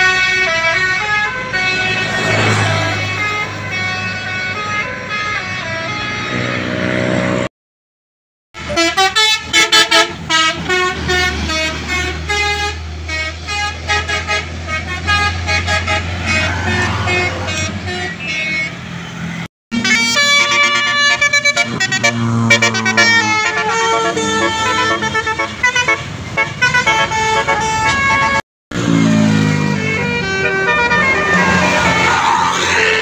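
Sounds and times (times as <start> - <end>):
bus engine hum: 0.0 - 7.5, 8.6 - 33.0
bus multi-tone horn melody: 0.0 - 7.5, 8.6 - 33.0.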